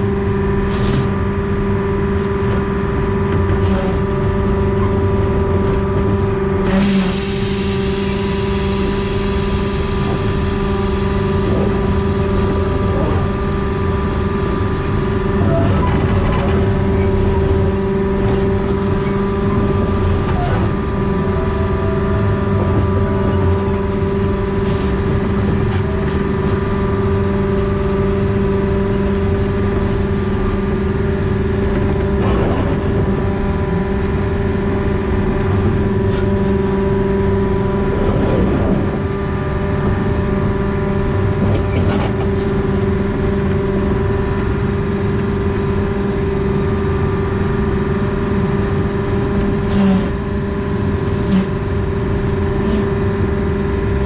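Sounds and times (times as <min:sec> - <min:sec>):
locomotive diesel engine humming: 0:01.3 - 0:54.0.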